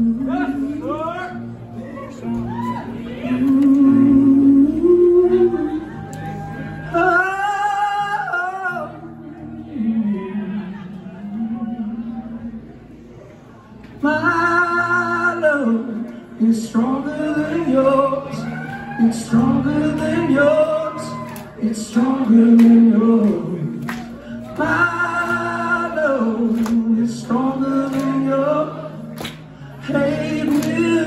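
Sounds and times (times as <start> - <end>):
acoustic guitar: 0.0 - 31.0.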